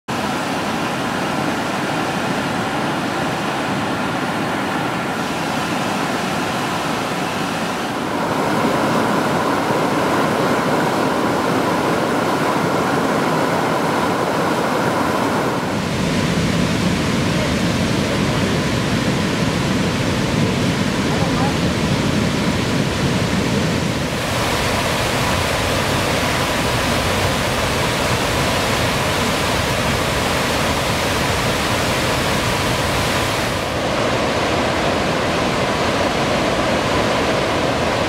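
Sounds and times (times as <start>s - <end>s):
rushing river rapids: 0.1s - 38.0s.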